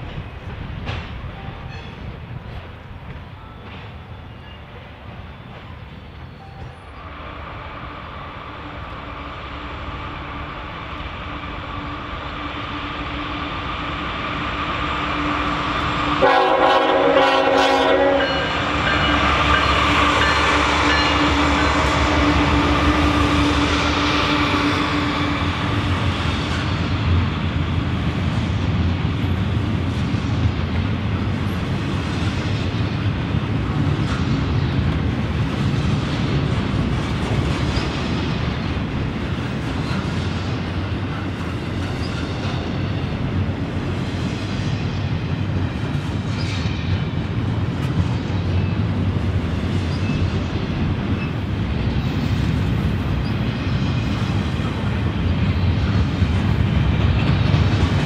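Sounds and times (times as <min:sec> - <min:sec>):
clickety-clack over track: 0:00.0 - 0:07.2, 0:08.5 - 0:58.0
train wheels rumbling: 0:00.0 - 0:58.0.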